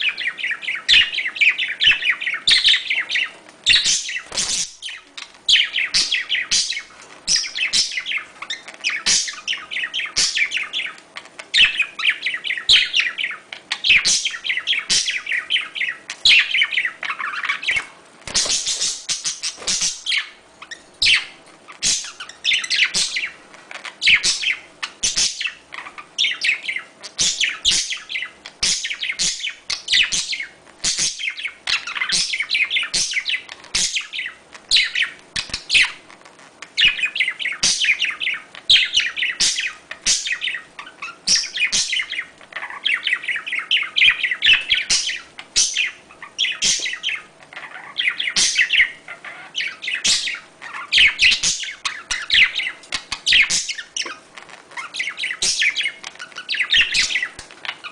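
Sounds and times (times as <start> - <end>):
budgerigars chattering and warbling: 0.0 - 36.1, 36.8 - 57.9.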